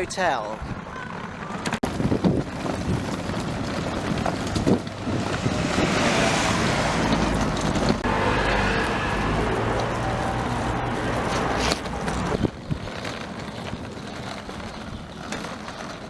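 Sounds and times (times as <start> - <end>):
low rumble of street noise: 0.0 - 16.0
wind buffeting microphone: 0.6 - 16.0.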